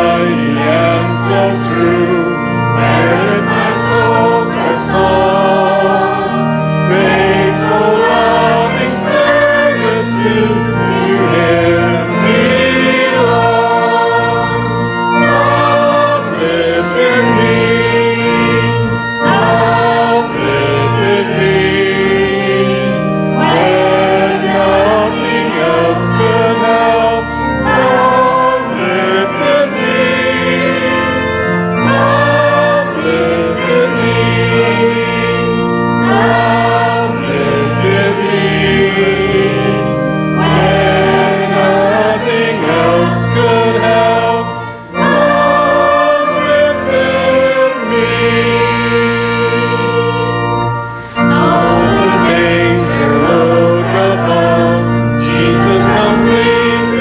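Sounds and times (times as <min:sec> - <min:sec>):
choir singing a hymn: 0:00.0 - 0:57.0
held low accompaniment notes: 0:00.0 - 0:57.0.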